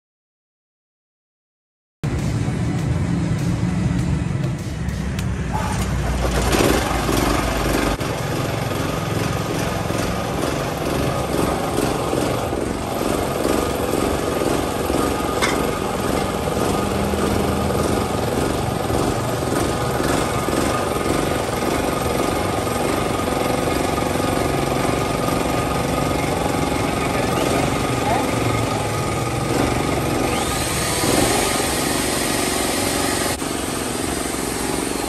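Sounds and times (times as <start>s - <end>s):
generator engine running: 2.0s - 35.0s.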